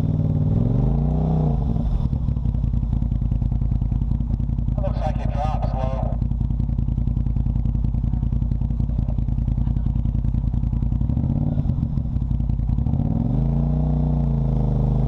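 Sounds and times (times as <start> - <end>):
off-road vehicle engine revving: 0.0 - 2.6, 4.7 - 15.0.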